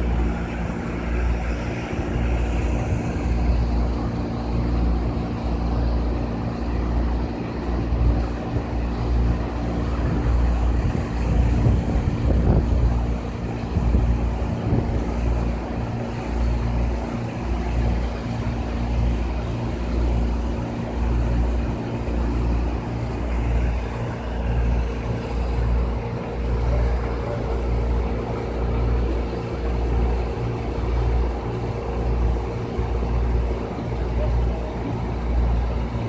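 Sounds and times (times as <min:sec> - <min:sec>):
large engine running: 0:00.0 - 0:36.0
wind buffeting microphone: 0:00.0 - 0:36.0.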